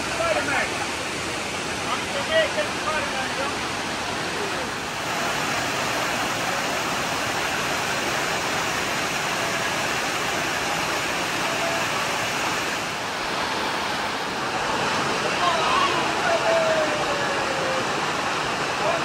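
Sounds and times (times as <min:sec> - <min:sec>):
waterfall rushing over rock: 0:00.0 - 0:19.0.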